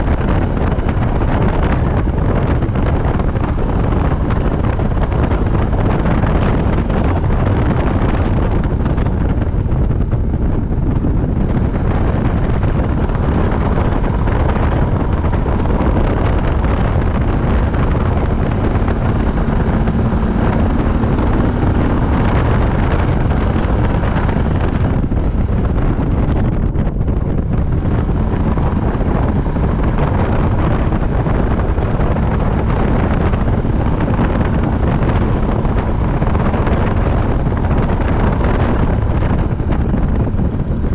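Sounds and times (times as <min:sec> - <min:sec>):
quad bike engine: 0:00.0 - 0:40.9
wind buffeting microphone: 0:00.0 - 0:40.9.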